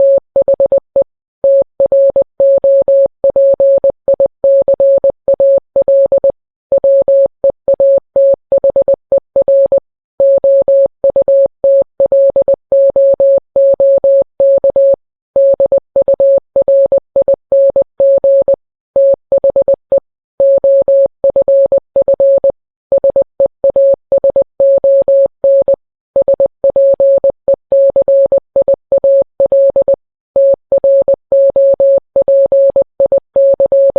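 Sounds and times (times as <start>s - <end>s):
morse code beeps: 0.0s - 33.9s.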